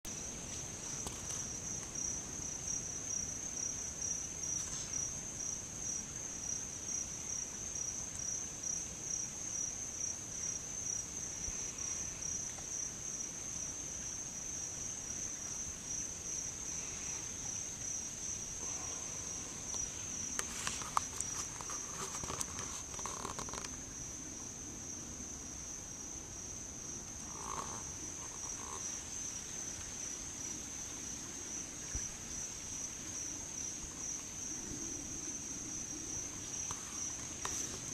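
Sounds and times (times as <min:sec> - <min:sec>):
insects trilling: 0:00.1 - 0:37.9.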